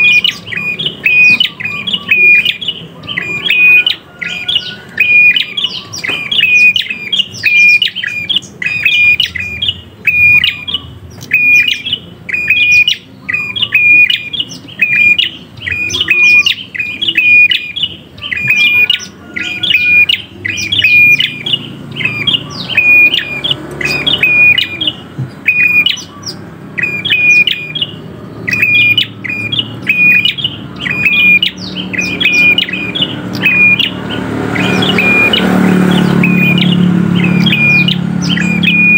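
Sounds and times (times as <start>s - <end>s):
bird chipping calls: 0.0s - 38.9s.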